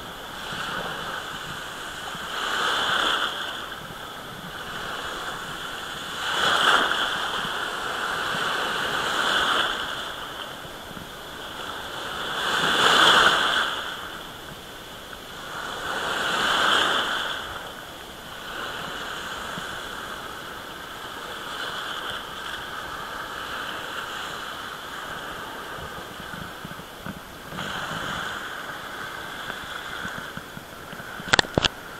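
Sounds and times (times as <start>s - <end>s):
small sea waves washing in: 0.0s - 31.9s.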